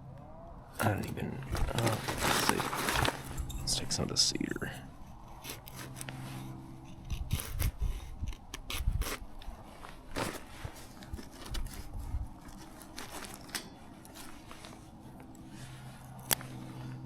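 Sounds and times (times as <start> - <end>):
wood scraping and cracking: 0.8 - 16.9.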